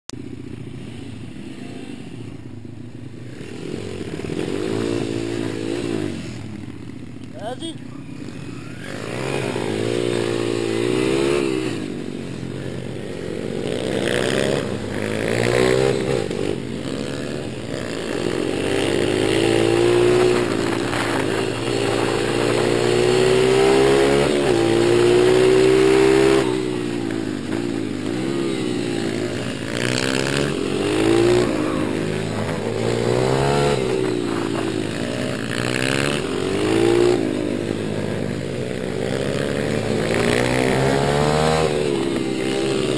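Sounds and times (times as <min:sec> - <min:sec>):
dirt bike engines revving: 0:00.2 - 0:42.9.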